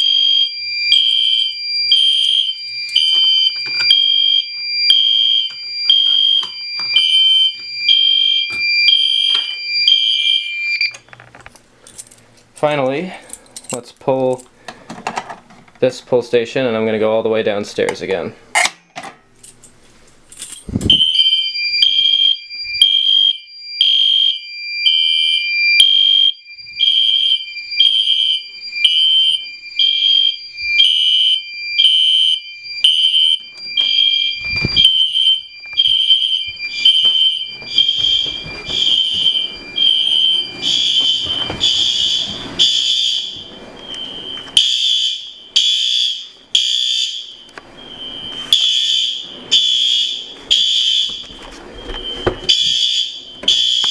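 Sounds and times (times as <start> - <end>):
fire alarm horns pulsing: 0.0 - 11.1, 16.7 - 18.8, 20.4 - 53.9
fire alarm pull station click: 0.0 - 11.2, 18.6 - 19.2, 20.9 - 53.9.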